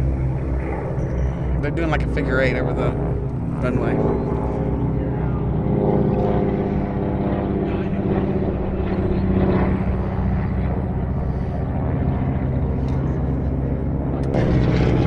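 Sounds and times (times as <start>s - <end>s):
propeller planes flying overhead: 0.0s - 15.0s.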